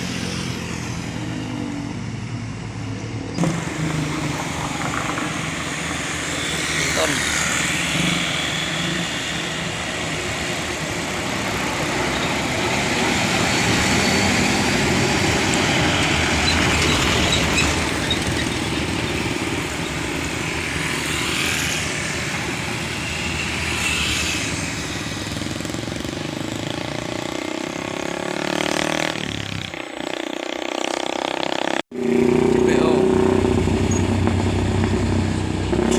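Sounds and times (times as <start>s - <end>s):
truck traffic passing: 0.0s - 35.9s.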